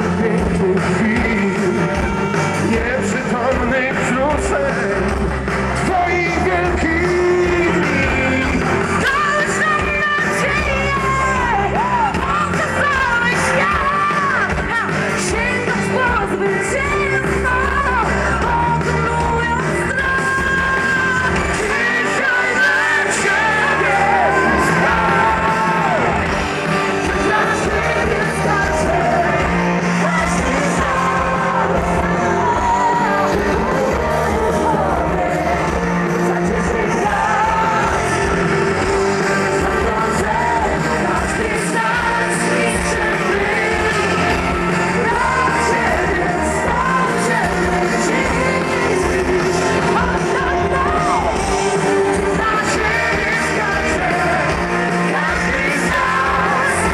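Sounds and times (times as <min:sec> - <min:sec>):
crowd yelling: 0:00.0 - 0:56.9
live music with singing: 0:00.0 - 0:56.9.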